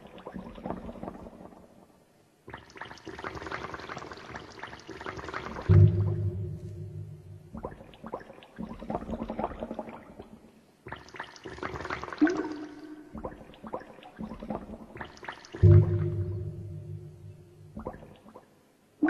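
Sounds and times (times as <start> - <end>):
gurgling water sounds: 0.0 - 18.8.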